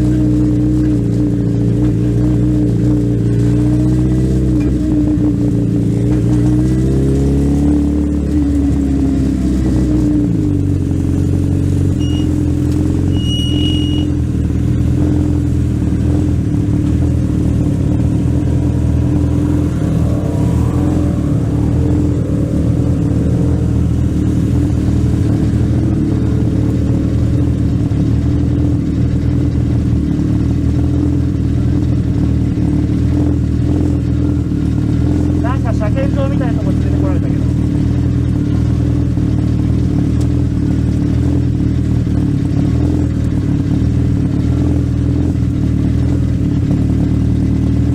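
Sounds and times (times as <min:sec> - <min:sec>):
race car engine running: 0:00.0 - 0:47.9.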